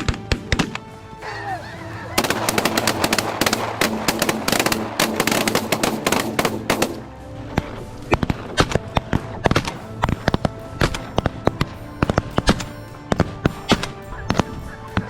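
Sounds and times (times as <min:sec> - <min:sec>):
background music: 0:00.0 - 0:15.0
geese honking: 0:00.0 - 0:15.0.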